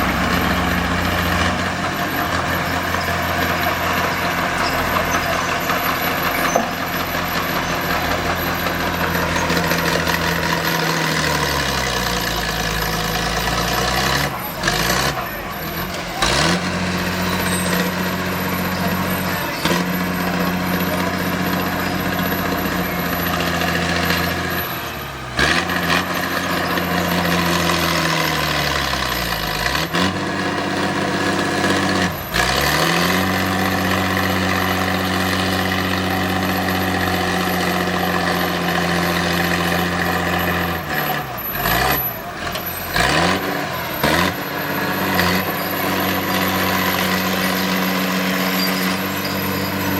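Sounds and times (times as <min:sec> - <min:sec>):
heavy diesel engine under load: 0:00.0 - 0:49.9.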